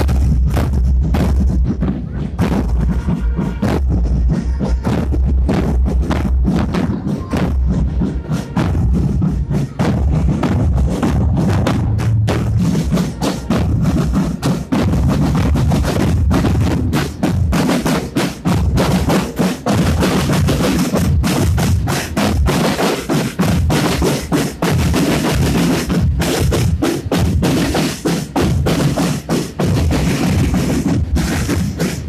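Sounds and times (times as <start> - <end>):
marching drums beating rapidly: 0.0 - 32.0.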